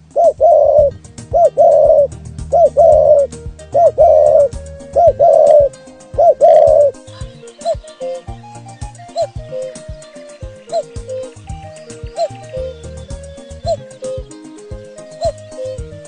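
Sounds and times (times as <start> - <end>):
bird two-part call: 0.0 - 16.0.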